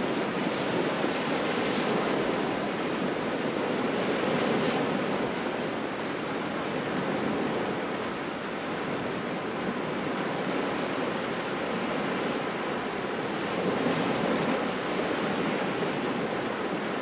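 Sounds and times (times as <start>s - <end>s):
small waves washing ashore: 0.0s - 17.0s.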